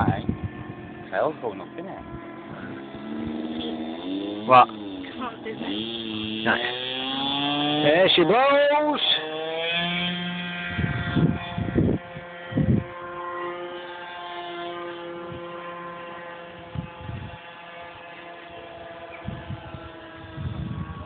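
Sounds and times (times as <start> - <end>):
model plane motor buzzing: 0.0 - 21.0.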